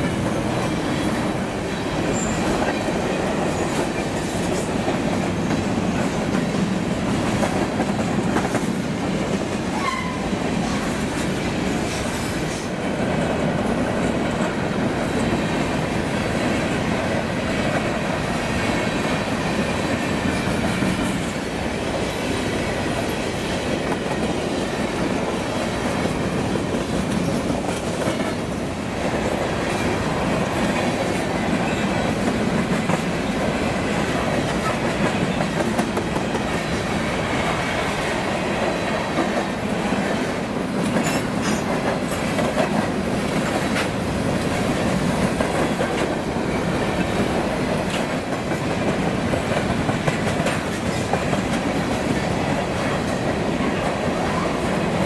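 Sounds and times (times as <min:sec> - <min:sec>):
wheels clacking over rail joints: 0:00.0 - 0:54.5
freight train rumbling past: 0:00.0 - 0:55.0.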